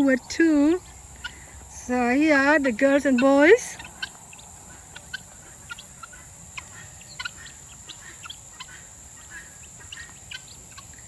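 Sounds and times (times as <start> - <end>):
guinea fowl chirping calls: 0.8 - 11.0.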